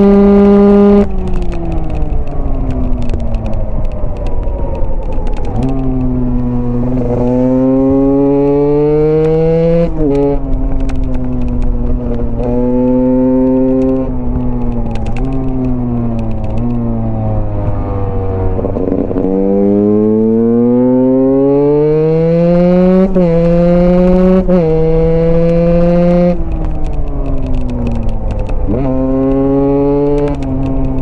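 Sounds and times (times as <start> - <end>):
dirt bike engine accelerating: 5.1 - 31.0.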